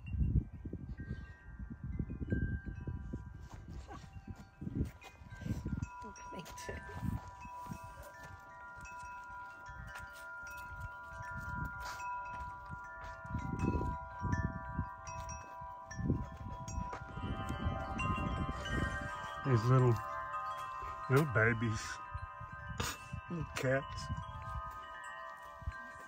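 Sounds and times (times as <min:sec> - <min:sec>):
metal wind chimes ringing: 0:00.0 - 0:26.0.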